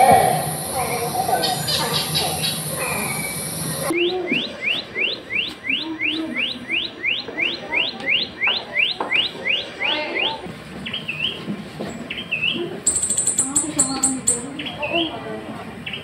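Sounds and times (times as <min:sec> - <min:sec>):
bird call over loudspeaker: 0:00.0 - 0:11.4, 0:12.1 - 0:15.2.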